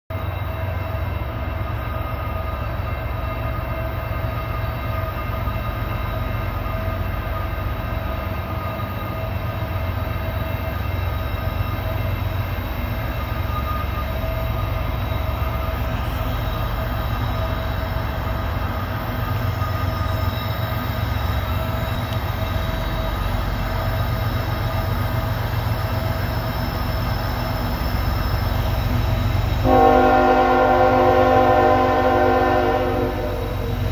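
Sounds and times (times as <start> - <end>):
diesel locomotives deep rumble: 0.1 - 33.9.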